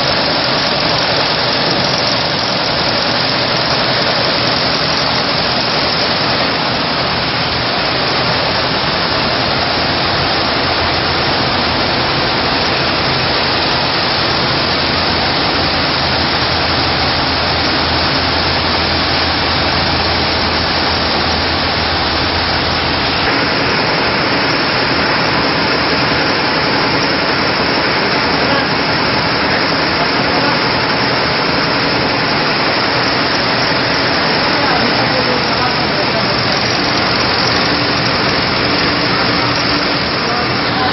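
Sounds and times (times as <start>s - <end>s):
sewing machine whirring: 0.0s - 40.9s.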